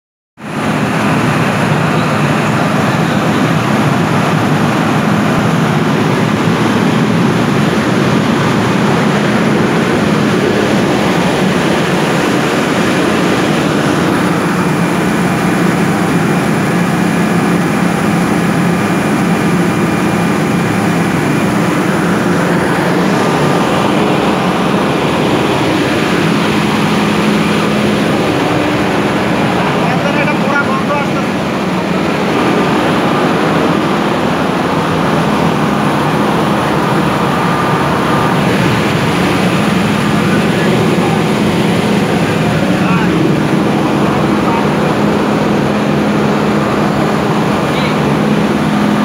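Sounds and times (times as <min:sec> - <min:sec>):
diesel generator running: 0:00.4 - 0:49.0.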